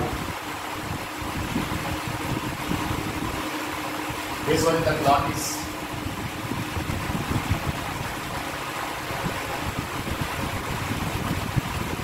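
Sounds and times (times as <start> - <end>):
low room rumble and hiss: 0.0 - 12.0.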